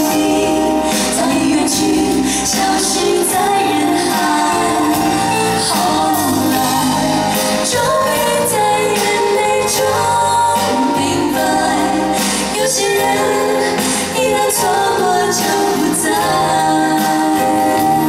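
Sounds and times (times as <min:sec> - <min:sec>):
band with drums and keyboards: 0:00.0 - 0:18.0
woman singing into microphone: 0:00.0 - 0:18.0.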